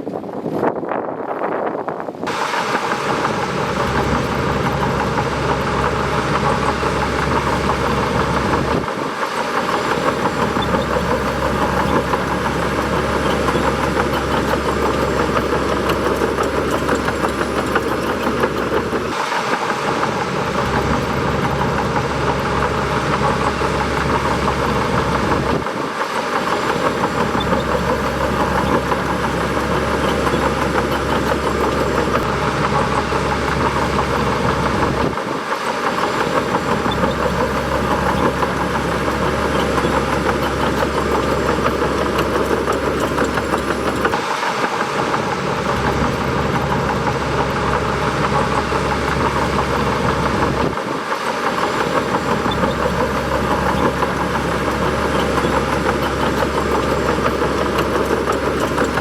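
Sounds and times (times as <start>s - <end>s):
bulldozer diesel engine drone: 2.1s - 59.0s.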